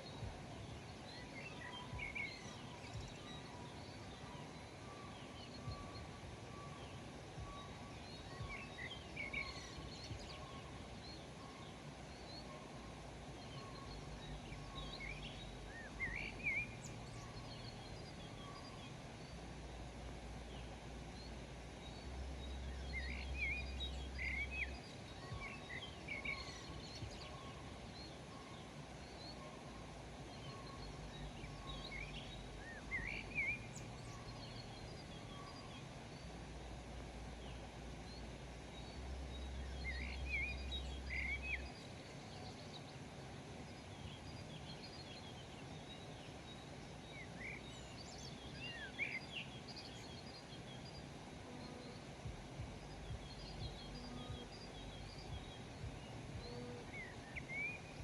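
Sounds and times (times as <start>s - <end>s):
low background rumble: 0.0s - 58.0s
small songbirds chirping: 0.0s - 58.0s.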